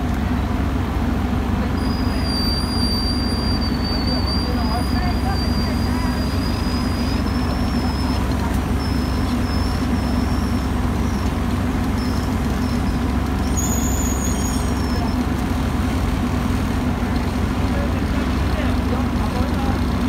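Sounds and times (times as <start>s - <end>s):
loud engine drone: 0.0s - 20.0s.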